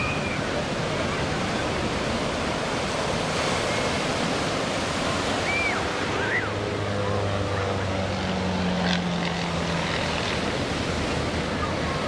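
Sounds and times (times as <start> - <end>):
ocean surf: 0.0 - 12.0
wind: 0.0 - 12.0.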